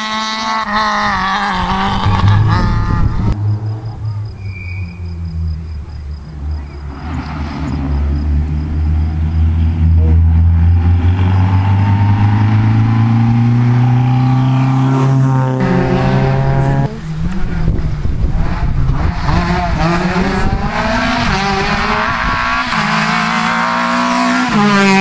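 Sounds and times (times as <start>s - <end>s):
rally car accelerating past: 0.0s - 5.7s, 6.4s - 25.0s.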